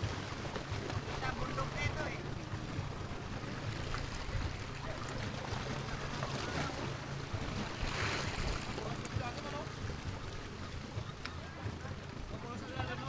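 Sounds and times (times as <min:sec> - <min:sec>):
water splash: 0:00.0 - 0:12.0
waves lapping against rocks: 0:00.0 - 0:13.0.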